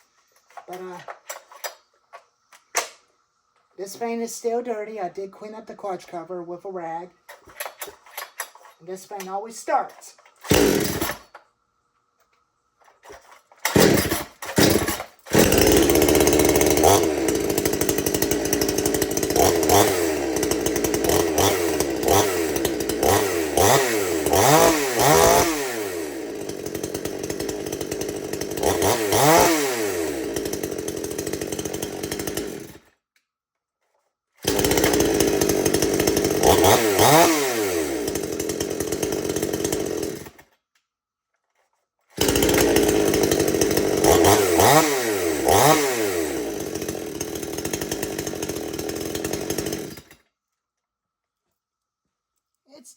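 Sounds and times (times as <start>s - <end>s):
chainsaw engine idling and revving: 0.5s - 1.5s, 3.8s - 11.4s, 13.0s - 33.0s, 34.4s - 40.6s, 42.1s - 50.2s.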